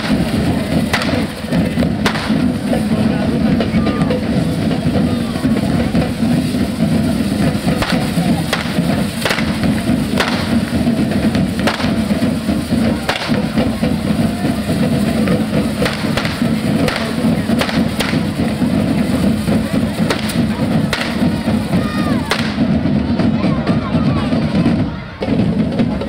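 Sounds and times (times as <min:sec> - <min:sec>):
continuous loud din: 0:00.0 - 0:26.0
firecrackers banging: 0:00.0 - 0:26.0.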